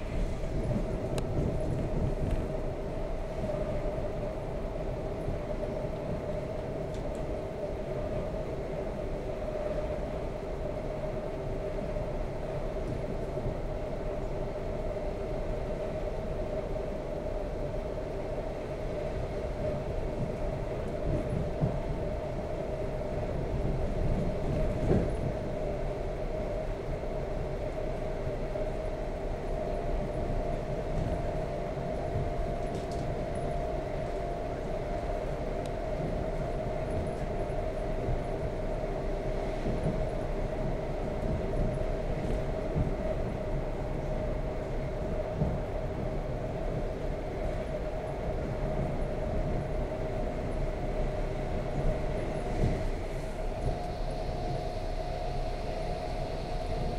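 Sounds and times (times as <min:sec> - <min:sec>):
steady train whine: 0:00.0 - 0:56.9
train rumbling on track: 0:00.0 - 0:56.9.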